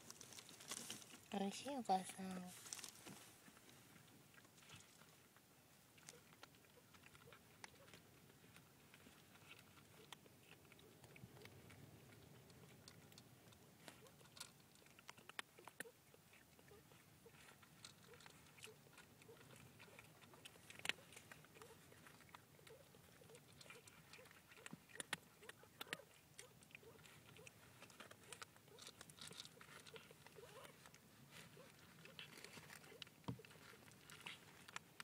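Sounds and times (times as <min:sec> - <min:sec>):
kittens suckling: 0:02.2 - 0:35.0.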